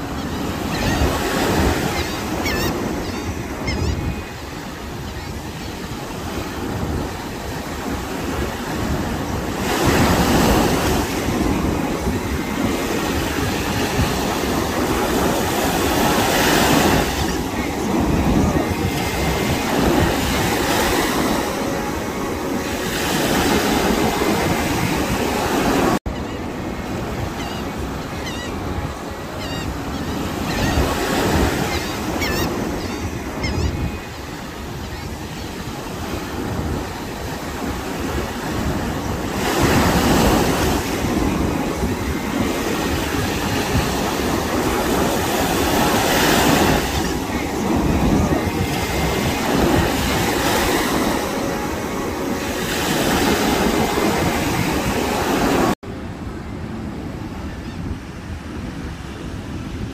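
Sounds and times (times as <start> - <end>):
waves breaking on sandy beach: 0.0 - 59.9.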